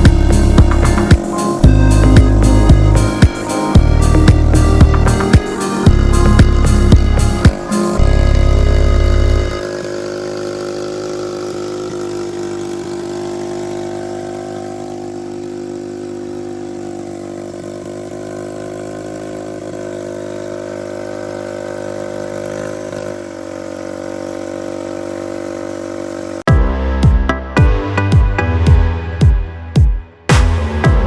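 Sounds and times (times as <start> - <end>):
engine running steadily: 0.0 - 26.5.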